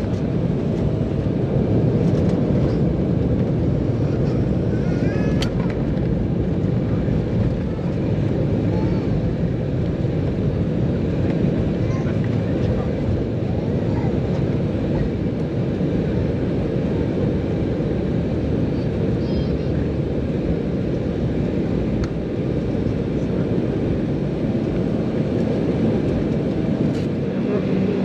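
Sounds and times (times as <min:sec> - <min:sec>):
airliner cabin engine rumble and hiss: 0:00.0 - 0:28.0.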